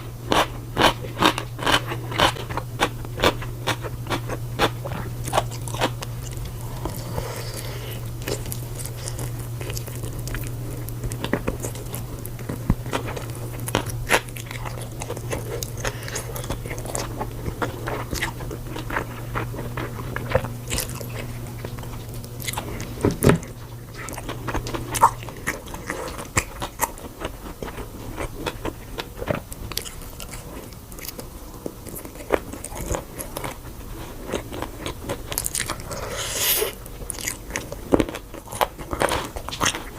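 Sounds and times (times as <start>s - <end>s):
crunching and chewing food: 0.0s - 39.9s
low steady hum: 0.0s - 39.9s.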